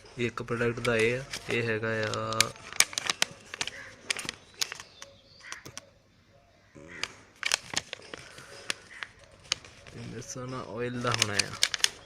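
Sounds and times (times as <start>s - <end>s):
paper and packaging crackling: 0.0s - 5.8s, 6.8s - 12.0s.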